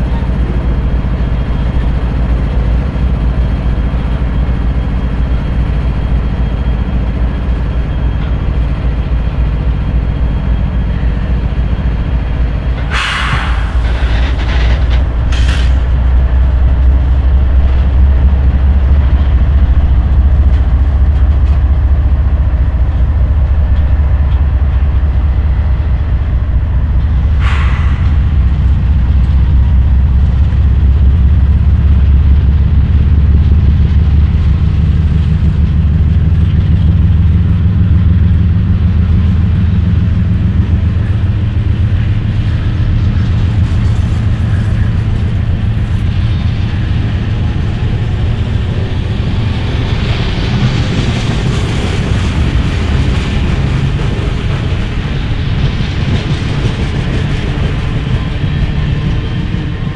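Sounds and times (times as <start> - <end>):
diesel locomotive engine drone: 0.0 - 59.9
train wheels on rail: 0.0 - 59.9.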